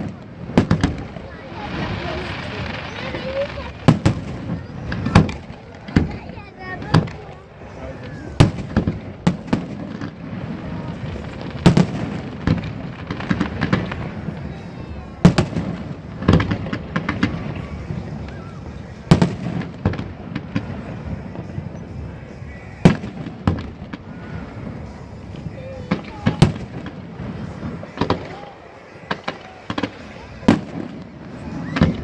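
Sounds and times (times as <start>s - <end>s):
firework pops and crackles: 0.0s - 32.0s.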